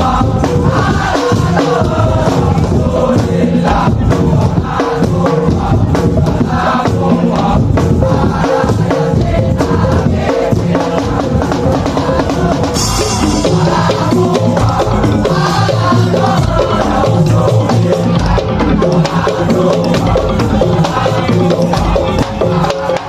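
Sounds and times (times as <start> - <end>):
percussion band playing: 0.0 - 23.0.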